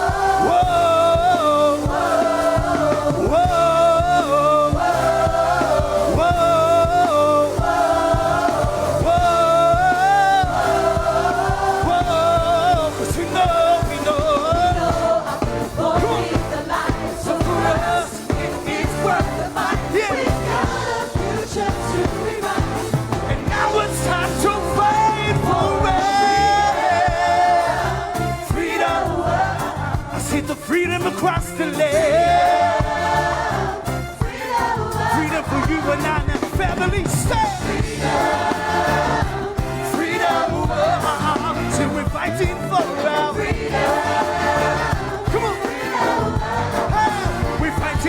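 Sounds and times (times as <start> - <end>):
reggae band playing: 0.0 - 48.0
vocal group singing: 0.0 - 48.0.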